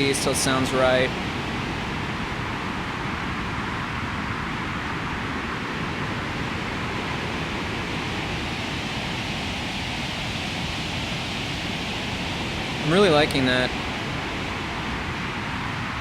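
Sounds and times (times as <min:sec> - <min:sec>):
synthesized wind and rain noise: 0:00.0 - 0:16.0.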